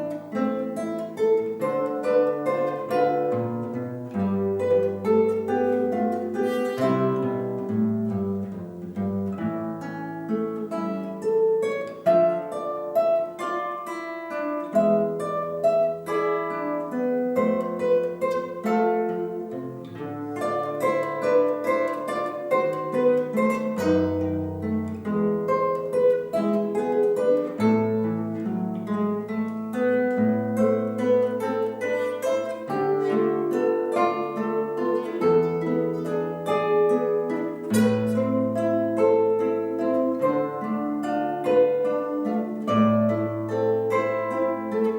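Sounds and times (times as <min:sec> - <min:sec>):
plucked string instrument melody: 0:00.0 - 0:44.9.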